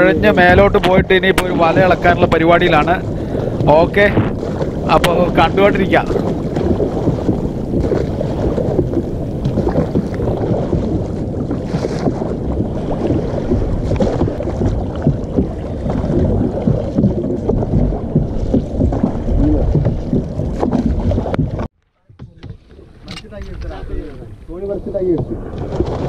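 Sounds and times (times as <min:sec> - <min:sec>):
water splashing around canoe: 0:00.0 - 0:26.0
wind buffeting microphone: 0:00.0 - 0:26.0.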